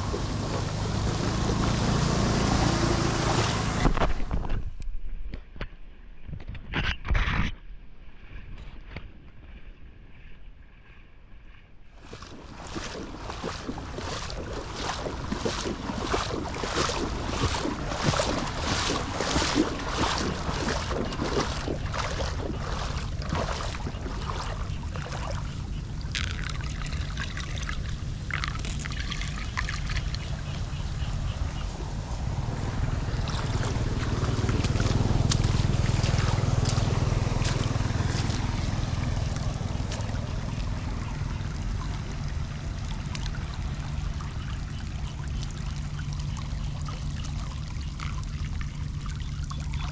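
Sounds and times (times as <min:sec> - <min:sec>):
footsteps sloshing through water: 0:00.0 - 0:04.4, 0:08.0 - 0:49.9
wind rumbling on microphone: 0:00.0 - 0:49.9.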